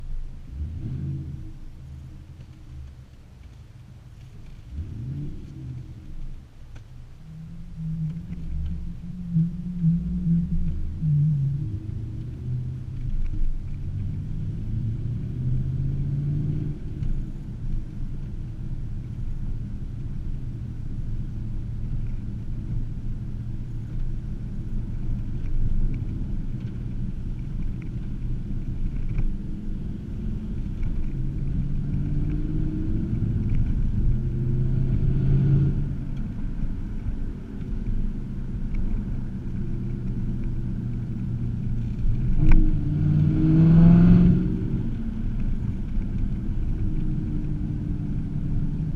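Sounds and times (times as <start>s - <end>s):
car exhaust drone: 0.0s - 48.9s.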